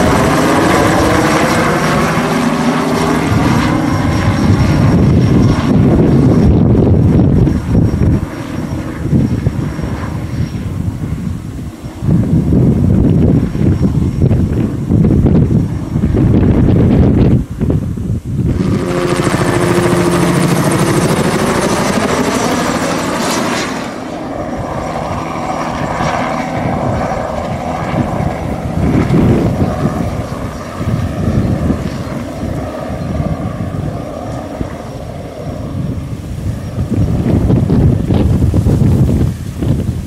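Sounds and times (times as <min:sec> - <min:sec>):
helicopter rotor chop: 0:00.0 - 0:40.0
helicopter turbine whine: 0:00.0 - 0:40.0.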